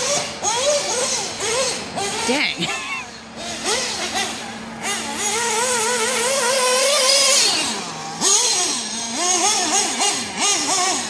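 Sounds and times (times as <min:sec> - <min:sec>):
model engine revving: 0:00.0 - 0:11.0
steady low hum: 0:00.0 - 0:11.0.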